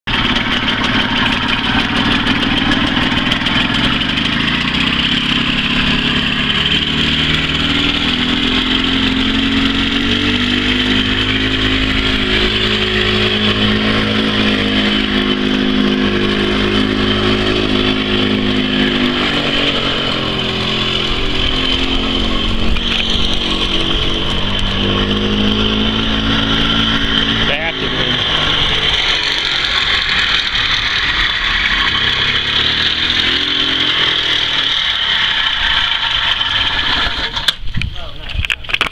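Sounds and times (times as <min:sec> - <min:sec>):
golf cart engine running: 0:00.0 - 0:38.9.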